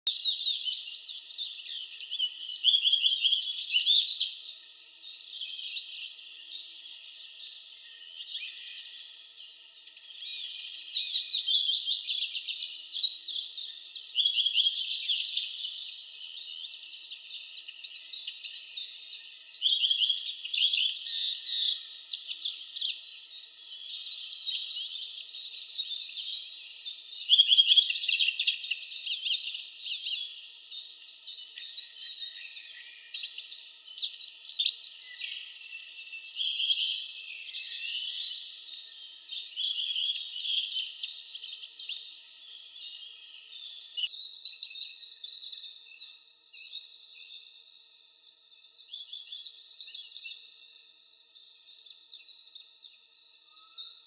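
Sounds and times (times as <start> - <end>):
songbirds chorus: 0.1 - 54.0.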